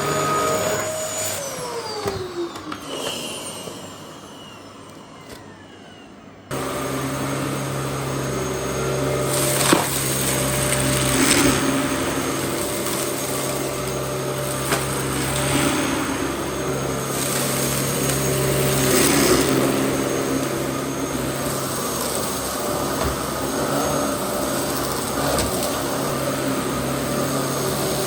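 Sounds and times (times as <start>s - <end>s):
vacuum cleaner motor: 0.0s - 28.0s.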